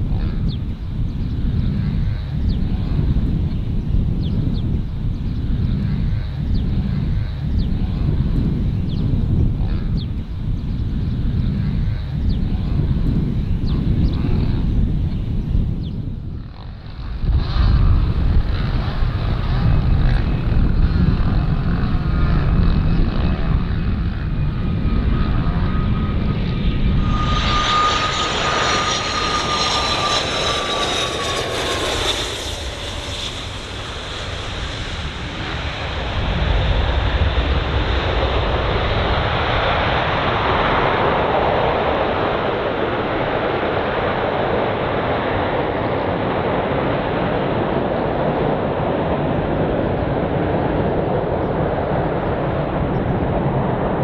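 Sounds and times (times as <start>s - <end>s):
jet engine whine: 0.0s - 54.0s
jet landing: 0.0s - 54.0s.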